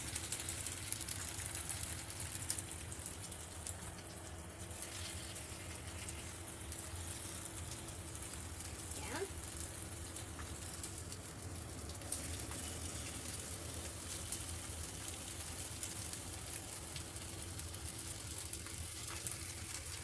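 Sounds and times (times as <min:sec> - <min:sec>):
flowers sizzling in oil: 0:00.0 - 0:20.0
low steady hum: 0:00.0 - 0:20.0.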